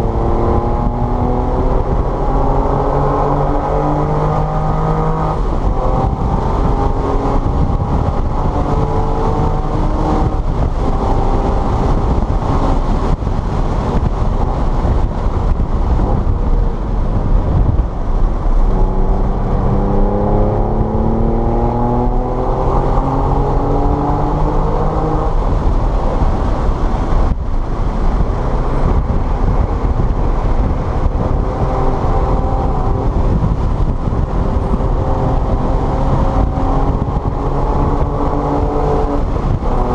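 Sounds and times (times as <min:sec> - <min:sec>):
car engine running hard: 0:00.0 - 0:39.9
road and tyre noise: 0:00.0 - 0:39.9.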